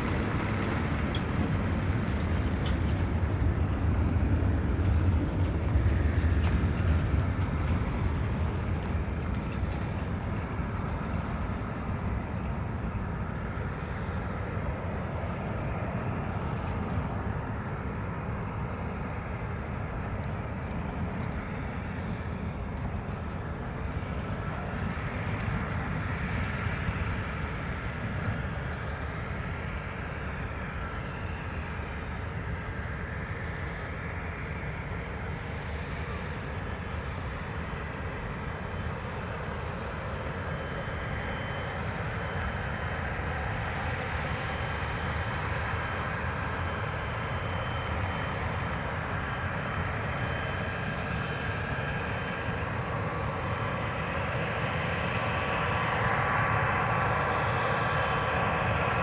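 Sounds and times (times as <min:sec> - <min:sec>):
faint whine gliding in pitch: 0:00.0 - 0:59.0
jet engines rumbling: 0:00.0 - 0:59.0.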